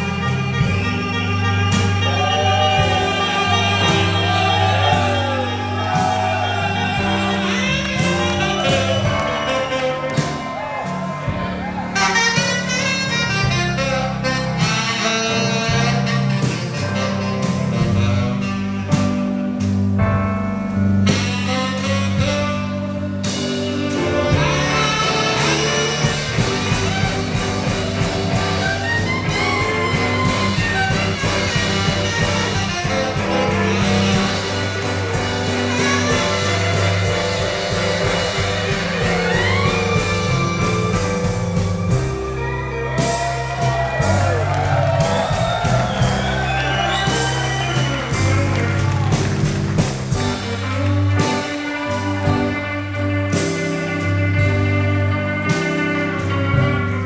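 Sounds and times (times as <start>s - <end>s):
saxophone solo: 0.0s - 57.0s
walking bass line: 0.0s - 57.0s.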